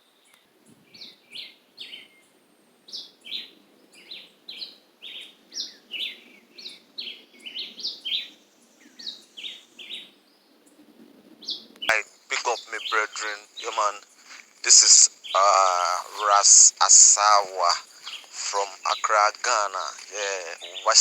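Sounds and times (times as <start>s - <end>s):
birds chirping: 2.9s - 10.5s, 11.4s - 21.0s.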